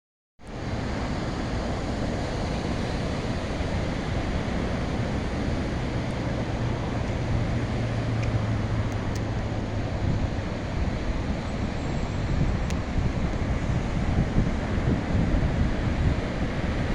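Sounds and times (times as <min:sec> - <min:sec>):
ocean waves breaking: 0:00.4 - 0:16.9
wind buffeting microphone: 0:00.5 - 0:16.9.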